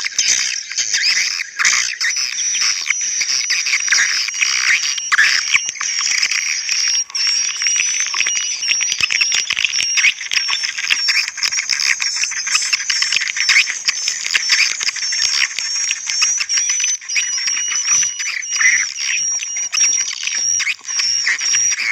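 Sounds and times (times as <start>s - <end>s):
swiftlets twittering: 1.0s - 21.9s.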